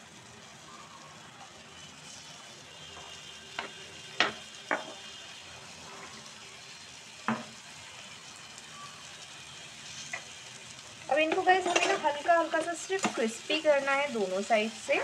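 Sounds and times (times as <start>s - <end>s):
butter sizzling in frying pan: 0.0s - 15.0s.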